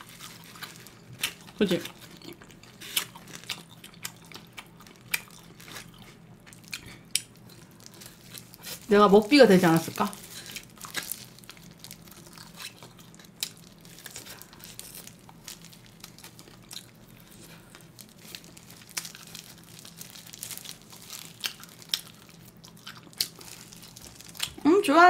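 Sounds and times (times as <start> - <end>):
chewing and gnawing meat: 0.0 - 9.0, 9.9 - 24.7
plastic gloves crinkling: 0.0 - 25.0.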